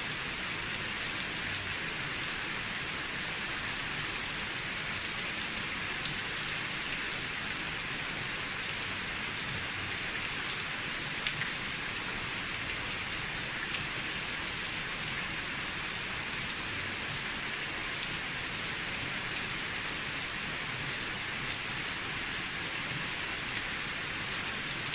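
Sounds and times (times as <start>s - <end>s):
steady rain on a roof: 0.0s - 24.9s.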